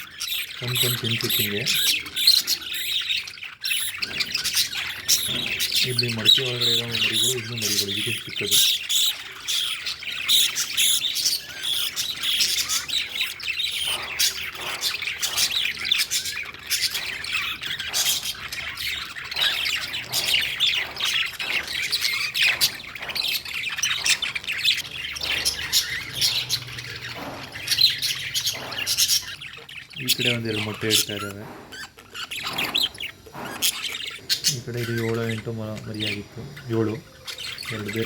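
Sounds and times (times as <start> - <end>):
lovebirds chattering and squawking: 0.0 - 38.0.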